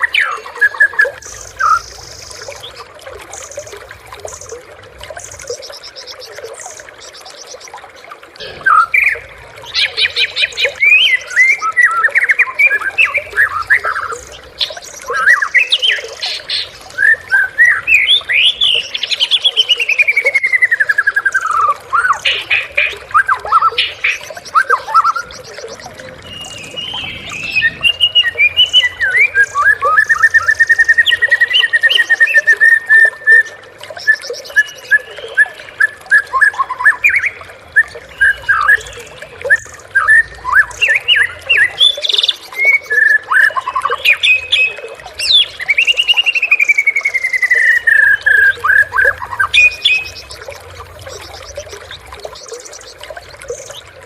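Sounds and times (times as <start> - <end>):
songbird singing whistles and trills: 8.7 - 53.9.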